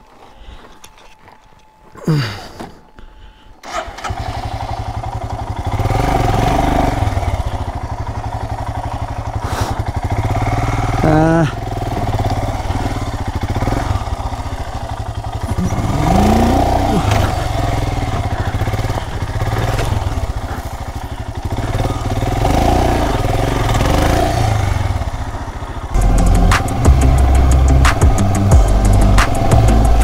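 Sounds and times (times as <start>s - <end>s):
motorcycle engine revving: 3.6s - 30.0s.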